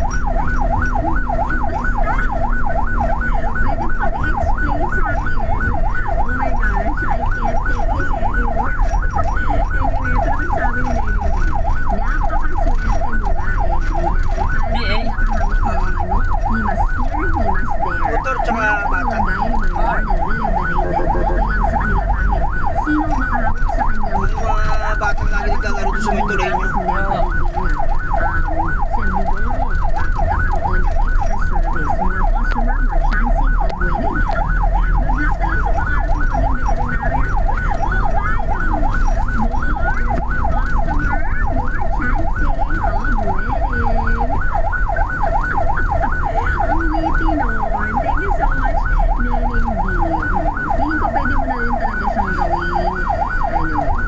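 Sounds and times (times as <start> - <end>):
ambulance siren yelping: 0.0 - 54.0
engine and road rumble: 0.0 - 54.0.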